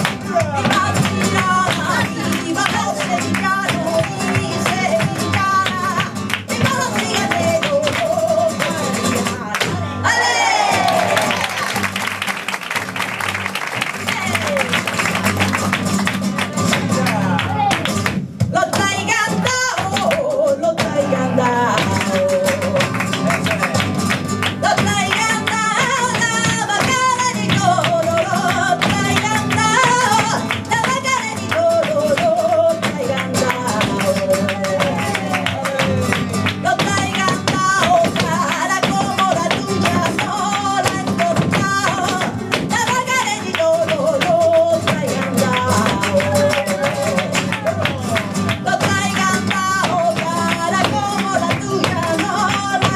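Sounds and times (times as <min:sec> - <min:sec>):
woman singing flamenco: 0:00.0 - 0:12.2, 0:13.8 - 0:52.9
strummed flamenco guitar: 0:00.0 - 0:52.9.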